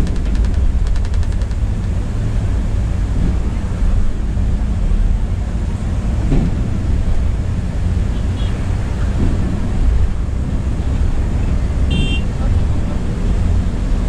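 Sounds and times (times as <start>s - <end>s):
bus engine and tyre rumble: 0.0s - 14.0s.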